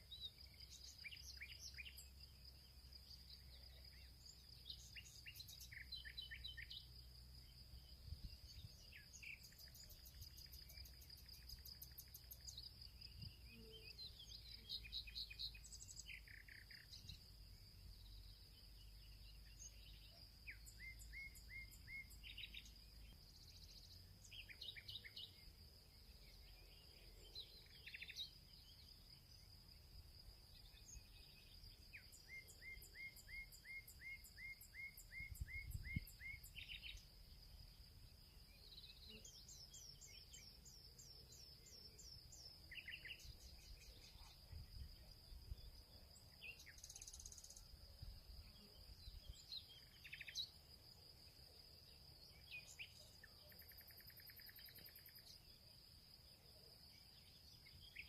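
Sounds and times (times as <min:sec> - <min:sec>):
insect trill: 0:00.0 - 0:58.0.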